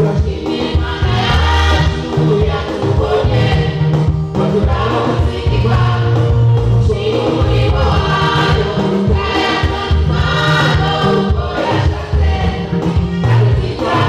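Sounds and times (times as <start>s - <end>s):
women singing gospel: 0.0s - 14.0s.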